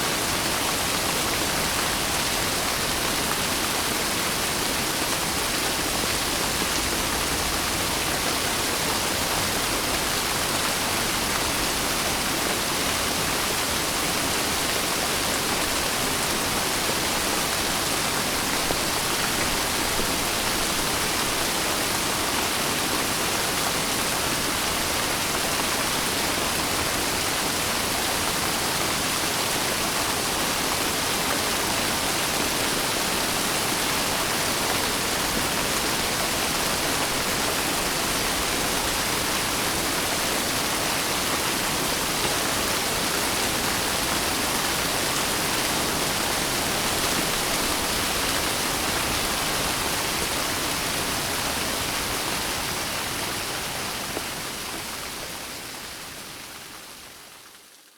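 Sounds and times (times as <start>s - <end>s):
dense rainfall hiss: 0.0s - 57.9s.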